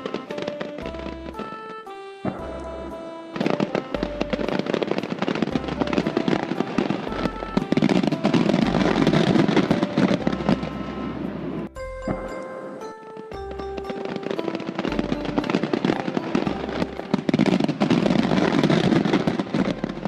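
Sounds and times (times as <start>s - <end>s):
dense crackling like firecrackers: 0.0s - 11.7s, 12.8s - 20.0s
melody of held notes: 0.0s - 20.0s.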